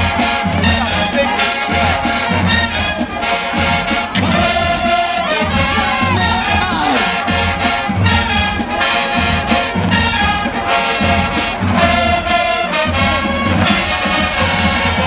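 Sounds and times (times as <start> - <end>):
steady low beat: 0.0 - 14.8
trumpets and trombones: 0.0 - 15.0.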